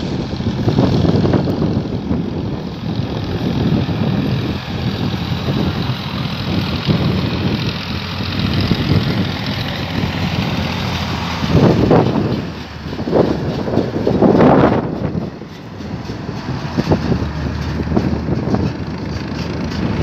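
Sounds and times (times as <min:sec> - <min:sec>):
truck diesel engine under load: 0:00.0 - 0:20.0.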